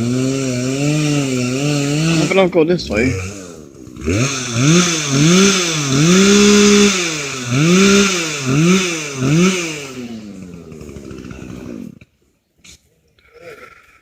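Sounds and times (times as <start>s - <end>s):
chainsaw engine revving: 0.0s - 12.1s.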